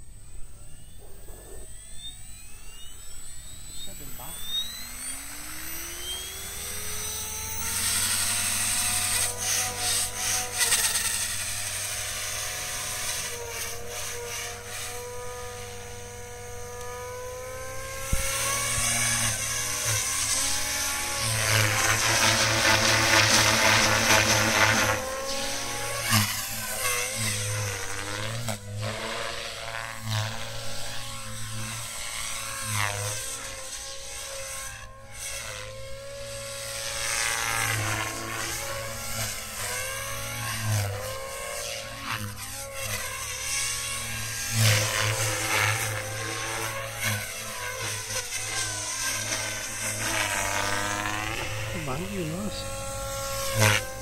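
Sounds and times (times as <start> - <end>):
rc helicopter motor whine: 0.0 - 54.0
rotor blades buzzing: 0.0 - 54.0.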